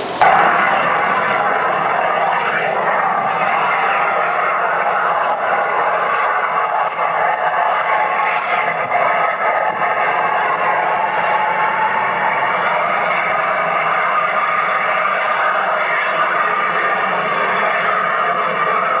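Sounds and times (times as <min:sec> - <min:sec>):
gas flare rushing noise: 0:00.0 - 0:19.0.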